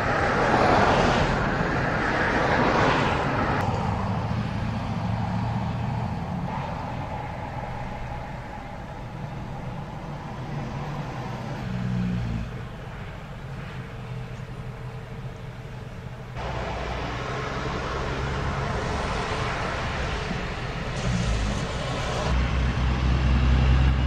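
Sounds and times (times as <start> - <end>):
road traffic passing: 0.0 - 24.0
truck engine rumble: 0.0 - 24.0.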